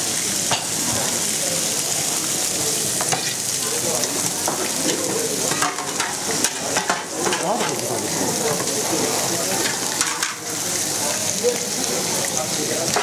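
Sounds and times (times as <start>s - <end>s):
steaks sizzling on grill pan: 0.0s - 13.0s.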